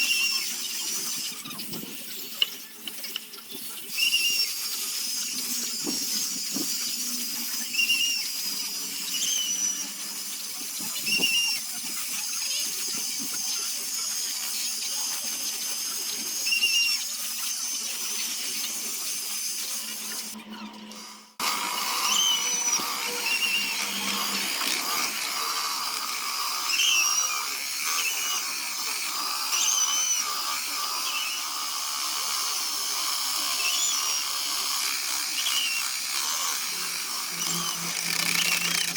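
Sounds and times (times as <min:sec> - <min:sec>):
power tool whirring against wood: 0:00.0 - 0:38.9.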